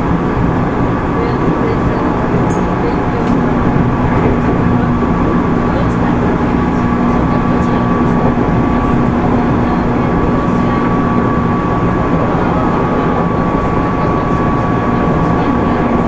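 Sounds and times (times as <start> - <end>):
low hum: 0.0 - 16.0
train wheels rumbling on rail: 0.0 - 16.0.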